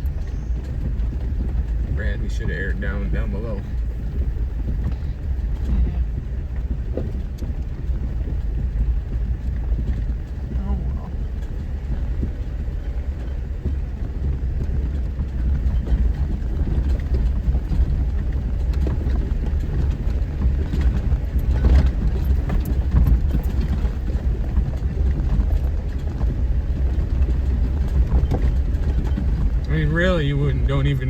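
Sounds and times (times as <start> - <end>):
engine and drivetrain rumble: 0.0 - 31.0
vehicle rattling and knocking: 0.0 - 31.0.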